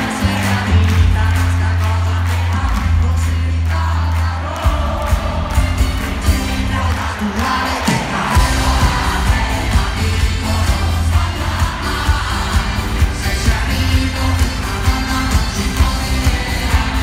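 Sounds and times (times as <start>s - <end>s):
live pop concert music: 0.0s - 17.0s.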